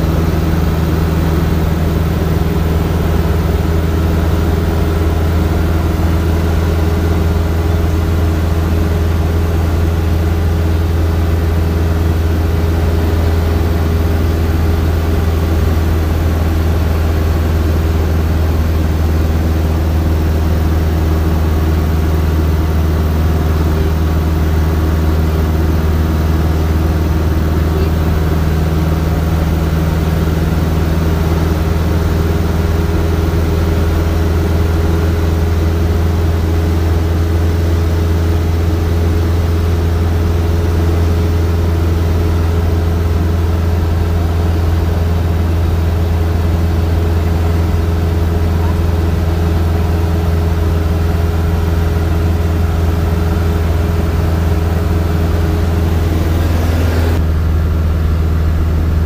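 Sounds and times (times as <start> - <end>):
aircraft engine drone in cockpit: 0.0 - 59.0.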